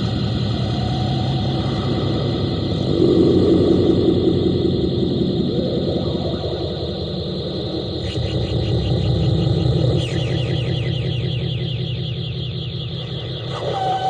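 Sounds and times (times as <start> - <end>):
faint steady tones: 0.0 - 14.0
rumbling noise machine drone: 0.0 - 14.0.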